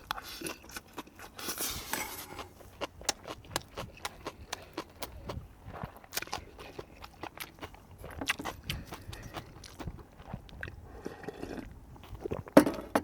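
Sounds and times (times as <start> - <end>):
person chewing food: 0.0 - 12.6.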